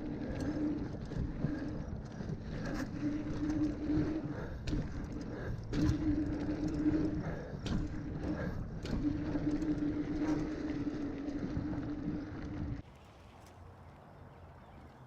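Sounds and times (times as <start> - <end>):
bike rattling and knocking: 0.0 - 12.8
mountain bike rolling hum: 0.0 - 15.0.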